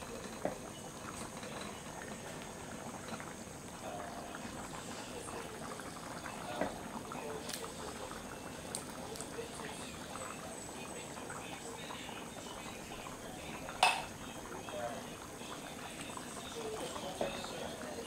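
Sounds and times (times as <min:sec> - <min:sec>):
liquid boiling with small pops: 0:00.0 - 0:18.0.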